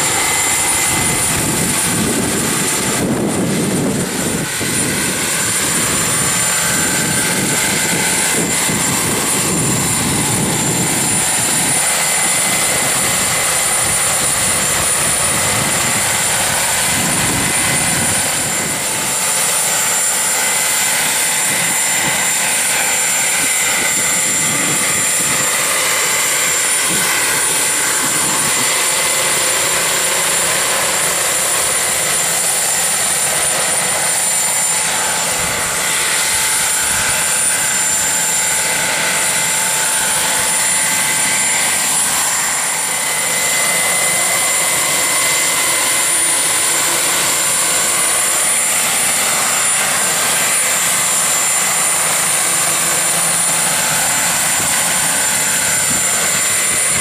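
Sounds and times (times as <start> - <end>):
model turbine engine whine: 0.0 - 57.0.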